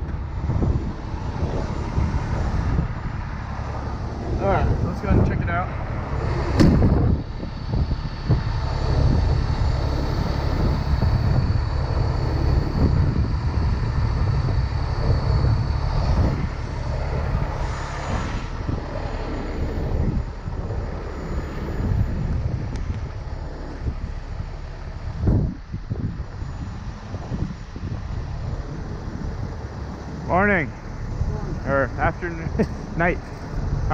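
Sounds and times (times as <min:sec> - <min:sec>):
truck engine droning: 0:00.0 - 0:33.9.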